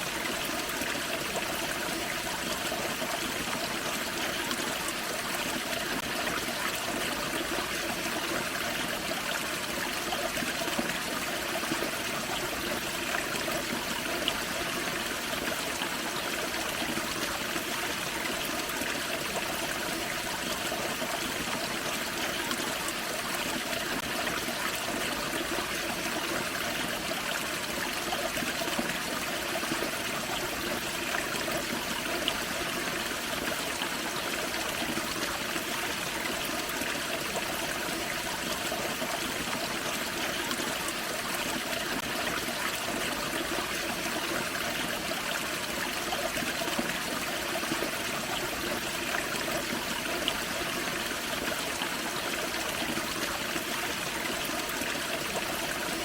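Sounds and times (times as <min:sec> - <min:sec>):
waterfall and creek running: 0:00.0 - 0:56.0.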